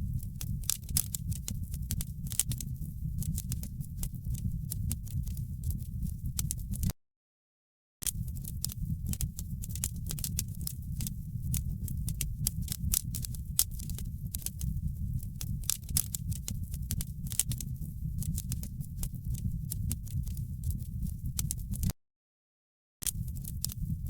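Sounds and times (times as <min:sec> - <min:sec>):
wood fire crackling and popping: 0:00.0 - 0:06.9, 0:08.1 - 0:21.9, 0:23.1 - 0:24.0.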